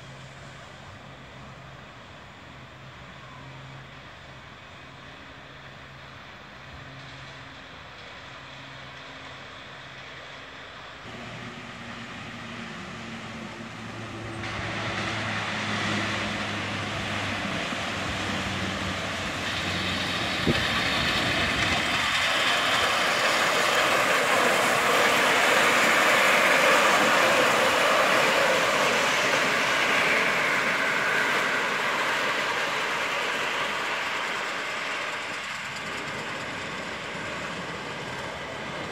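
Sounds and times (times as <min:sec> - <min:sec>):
miniature steam train running: 0:00.0 - 0:38.9.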